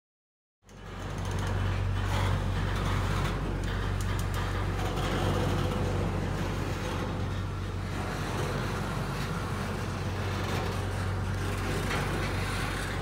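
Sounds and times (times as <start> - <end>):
train wheels rumbling on rails: 0.7 - 13.0.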